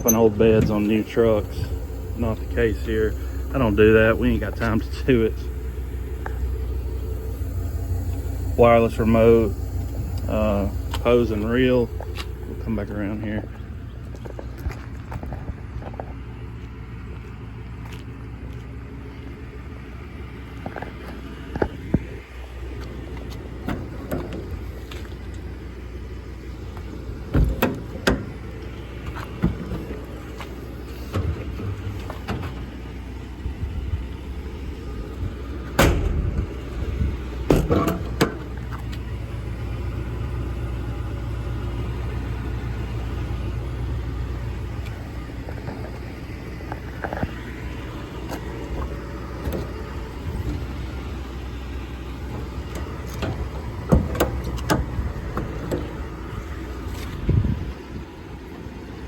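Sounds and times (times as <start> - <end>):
metal compartment doors clanking: 0.0 - 14.5, 21.6 - 33.4, 34.2 - 58.0
truck engine idling: 0.0 - 59.0.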